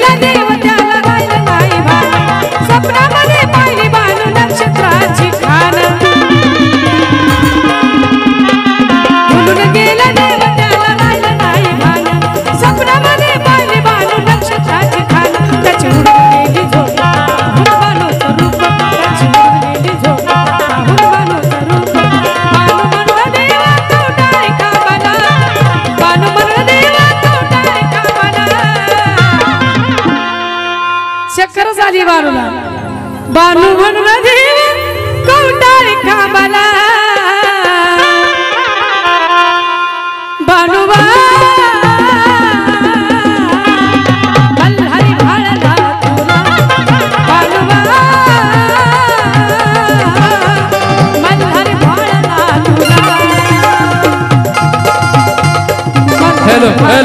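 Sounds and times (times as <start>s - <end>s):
drum beating quick rhythm: 0.0s - 30.3s, 40.9s - 57.0s.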